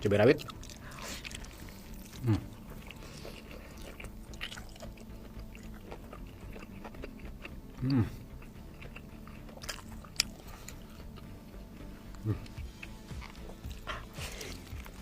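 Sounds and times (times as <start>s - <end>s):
low hum from eater: 0.0s - 15.0s
chewing and biting: 0.3s - 15.0s.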